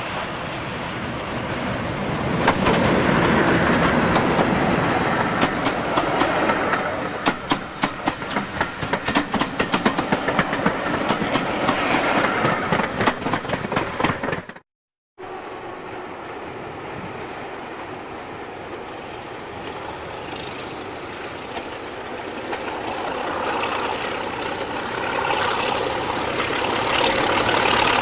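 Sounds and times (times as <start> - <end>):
diesel locomotive passing: 0.0 - 14.6, 15.2 - 28.0
train wheels clicking on rails: 1.2 - 14.6, 18.6 - 28.0.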